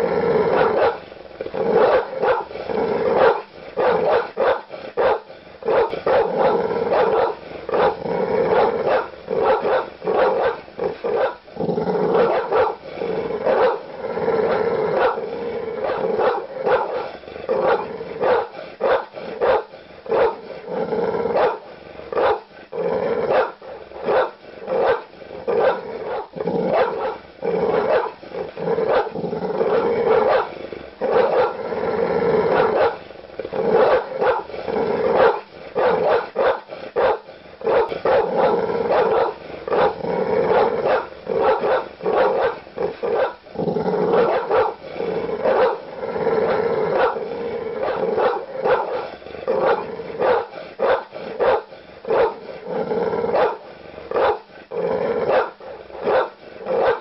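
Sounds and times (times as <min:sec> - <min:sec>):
large dog barking aggressively: 0:00.0 - 0:57.0.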